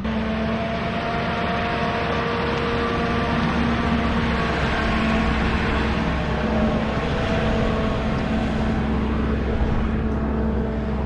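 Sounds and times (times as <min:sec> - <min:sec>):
road and wind noise: 0:00.0 - 0:11.0
vehicle engine drone: 0:00.0 - 0:11.0.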